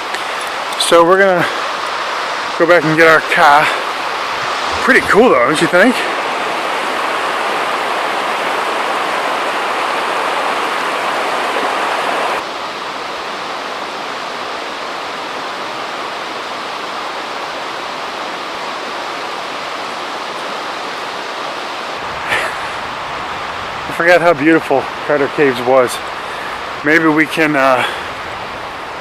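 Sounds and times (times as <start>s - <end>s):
running water rushing: 0.0s - 29.0s.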